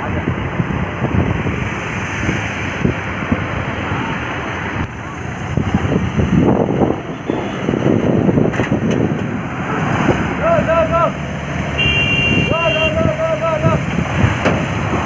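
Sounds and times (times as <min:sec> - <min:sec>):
wind buffeting microphone: 0:00.0 - 0:15.0
heavy diesel engine running: 0:02.8 - 0:15.0.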